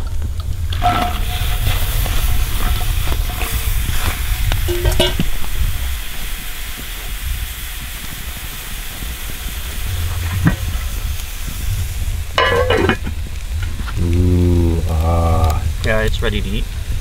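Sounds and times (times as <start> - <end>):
food sizzling in a pan: 0.5 - 17.0.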